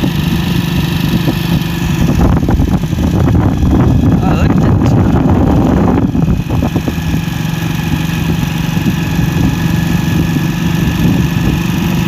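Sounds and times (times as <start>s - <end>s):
road rumble and rushing: 0.0s - 12.0s
tractor diesel engine running: 0.0s - 12.0s.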